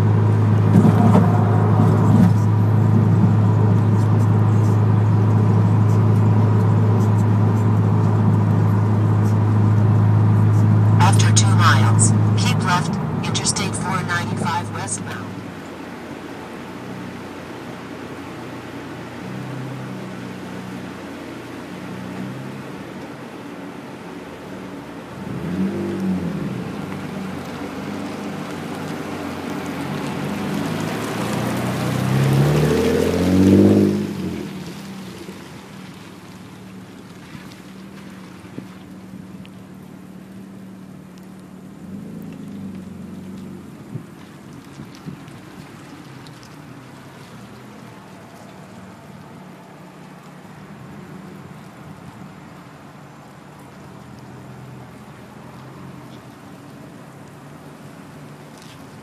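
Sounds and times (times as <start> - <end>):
car exhaust drone: 0.0 - 59.0
road noise: 0.0 - 59.0.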